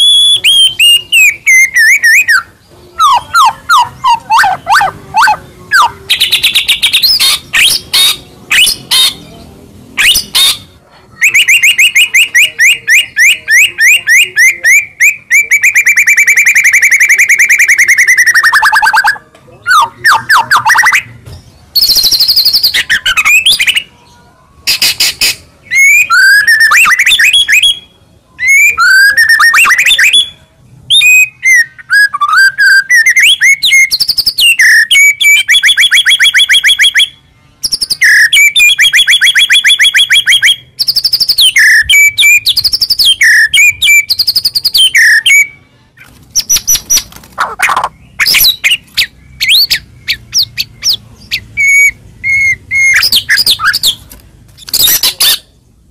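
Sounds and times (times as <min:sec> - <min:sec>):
songbird singing varied phrases: 0:00.0 - 0:55.9.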